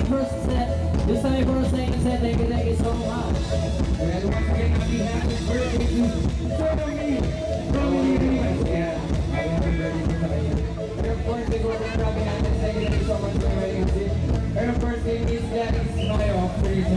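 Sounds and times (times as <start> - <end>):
amplified music with singing: 0.0 - 16.9
low bass line: 0.0 - 16.9.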